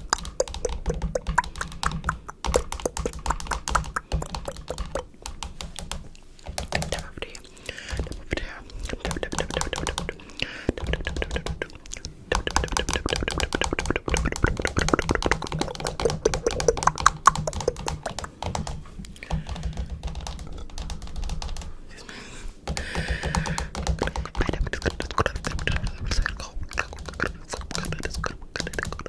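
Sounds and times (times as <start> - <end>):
rapid clicking and tapping: 0.0 - 21.8, 22.6 - 29.0.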